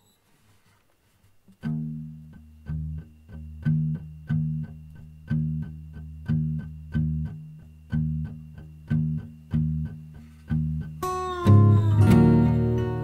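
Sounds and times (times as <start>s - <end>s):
fingerpicked acoustic guitar: 1.5s - 13.0s.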